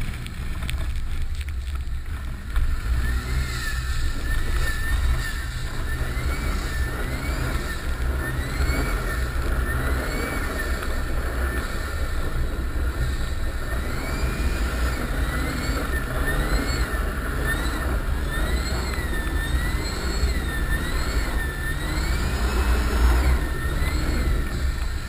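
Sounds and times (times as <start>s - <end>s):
diesel engine rumble: 0.0s - 25.0s
turbocharger whistling: 2.6s - 25.0s.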